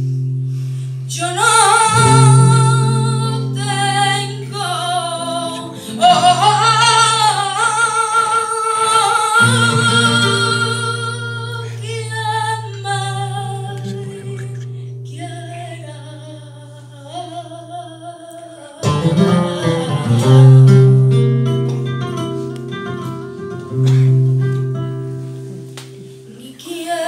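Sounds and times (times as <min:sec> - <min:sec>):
nylon-string guitar: 0:00.0 - 0:26.9
woman singing flamenco: 0:00.9 - 0:27.0.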